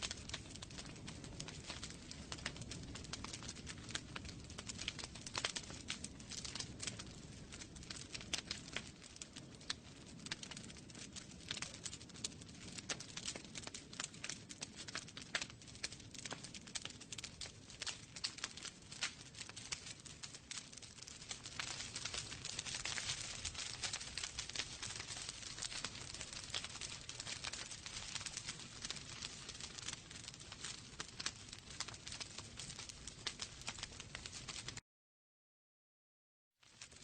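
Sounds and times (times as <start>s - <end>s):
wood fire crackling: 0.0s - 34.8s, 36.6s - 37.0s.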